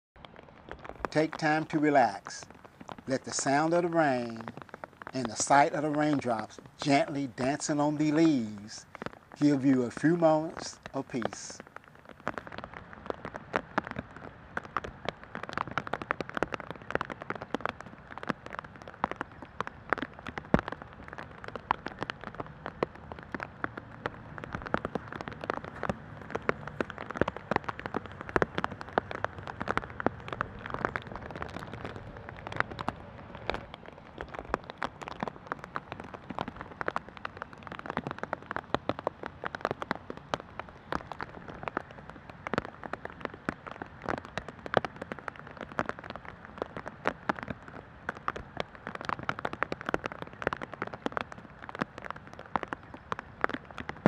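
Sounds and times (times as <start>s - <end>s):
rain falling: 0.2s - 54.0s
raindrops ticking close by: 0.2s - 54.0s.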